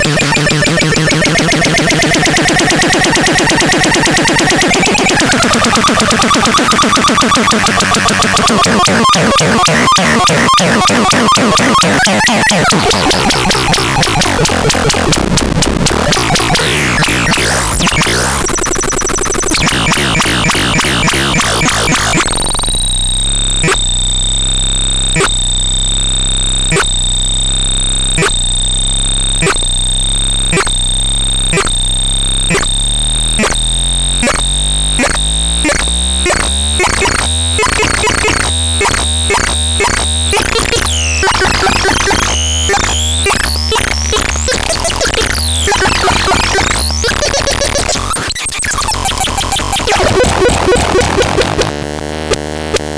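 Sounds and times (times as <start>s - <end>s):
regular click pulse: 0.0s - 22.6s, 30.5s - 30.8s, 31.5s - 31.8s, 32.4s - 51.8s
sweeping synthesizer tones: 0.0s - 51.8s
steady high synthesizer tones: 0.0s - 52.0s.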